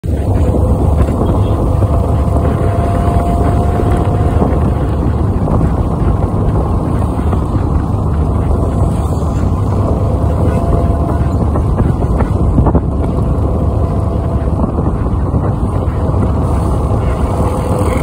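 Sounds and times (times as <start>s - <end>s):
vehicle engine and tyre rumble: 0.0s - 18.0s
wind over microphone: 0.0s - 18.0s.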